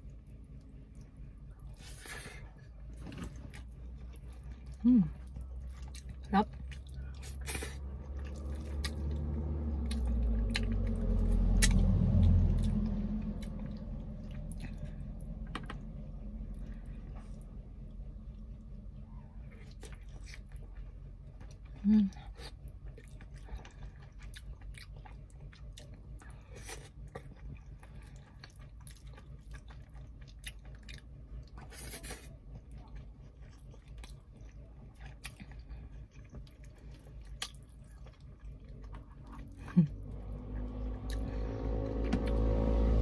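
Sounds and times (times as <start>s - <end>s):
wet chewing and lip-smacking: 0.0s - 15.9s, 16.6s - 40.0s
low steady hum: 0.0s - 43.0s.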